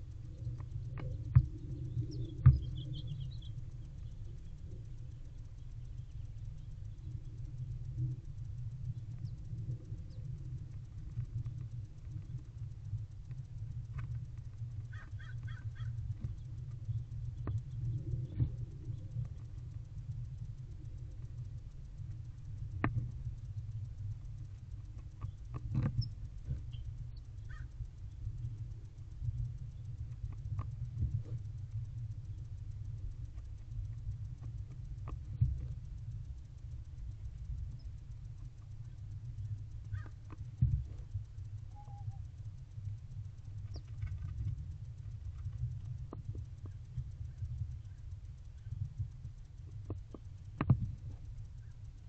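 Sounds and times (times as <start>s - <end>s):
low rumble: 0.0s - 52.0s.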